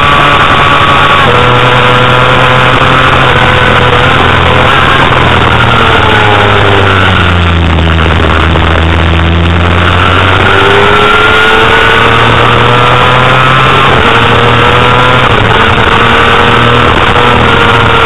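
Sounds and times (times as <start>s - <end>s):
motorcycle engine at high revs: 0.0s - 18.0s
wind rush on microphone: 0.0s - 18.0s.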